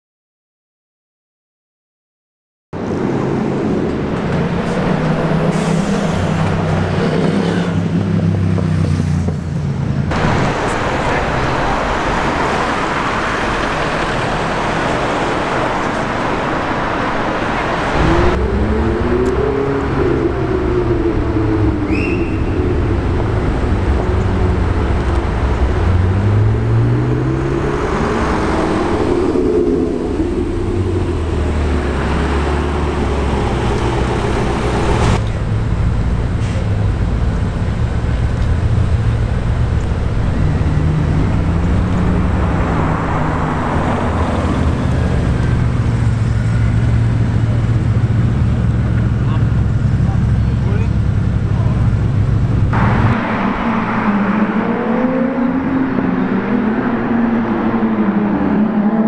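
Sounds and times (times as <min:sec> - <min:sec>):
car engine revving: 0:02.8 - 0:59.0
street traffic noise: 0:02.8 - 0:59.0.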